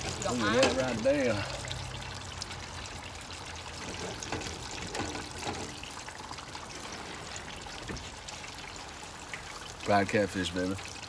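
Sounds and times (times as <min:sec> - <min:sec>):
oil sizzling in deep fryer: 0:00.0 - 0:11.0.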